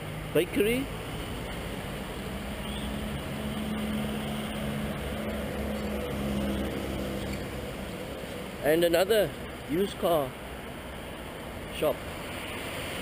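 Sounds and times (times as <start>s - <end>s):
city road traffic: 0.0s - 13.0s.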